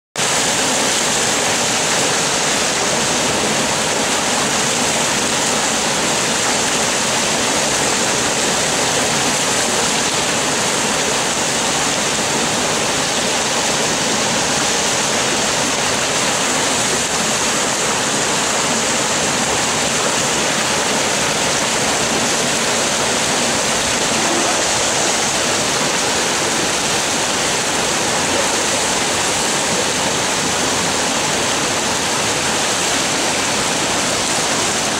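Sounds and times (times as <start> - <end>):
water rushing over rocks: 0.2 - 34.9.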